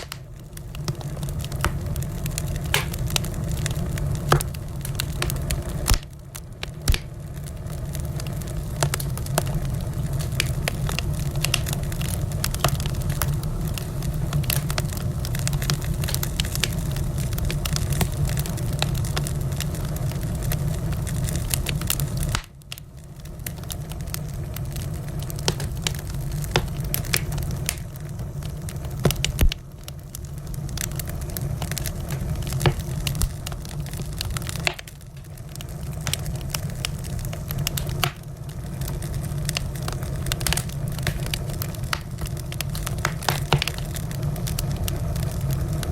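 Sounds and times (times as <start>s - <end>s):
low rumble of flames: 0.0s - 45.9s
wood fire crackling and popping: 0.0s - 45.9s.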